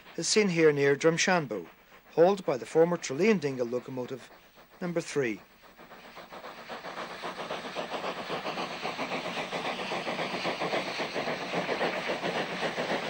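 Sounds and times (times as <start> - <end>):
steam hissing: 0.0 - 13.0
steam locomotive exhaust beats: 0.0 - 13.0.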